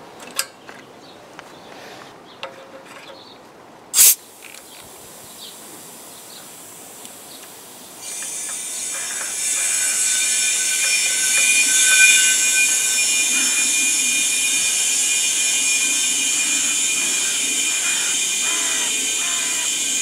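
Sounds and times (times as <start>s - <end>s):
compressed air hissing through hose: 4.0s - 20.0s.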